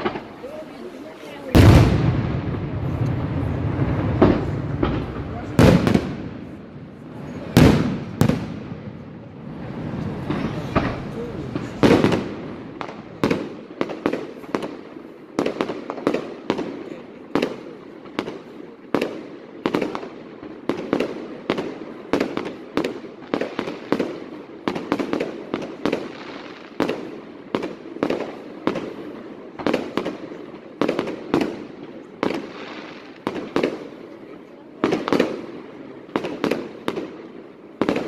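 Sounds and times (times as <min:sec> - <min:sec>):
fireworks bangs with echoing rumble: 0:00.0 - 0:38.0.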